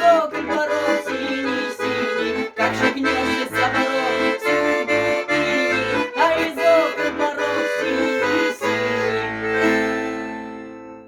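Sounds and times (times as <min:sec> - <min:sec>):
accordion playing: 0:00.0 - 0:11.0.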